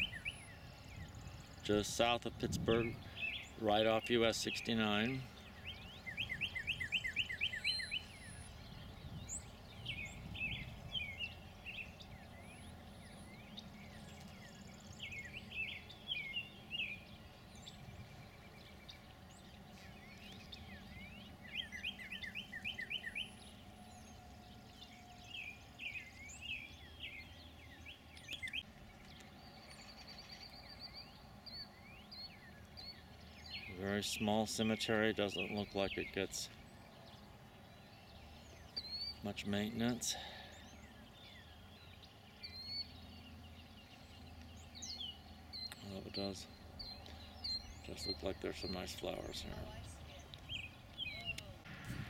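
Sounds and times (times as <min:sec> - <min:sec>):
low steady background noise: 0:00.0 - 0:52.0
songbirds singing: 0:00.0 - 0:52.0.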